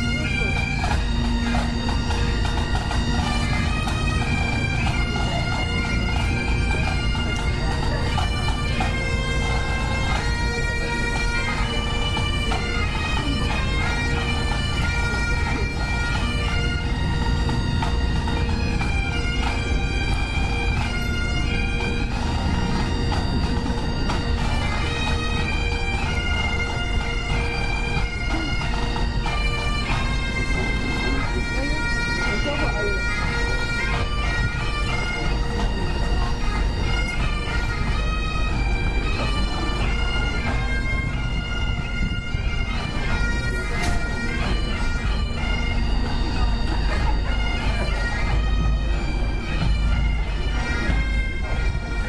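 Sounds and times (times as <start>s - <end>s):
bagpipes playing a tune: 0.0s - 52.0s.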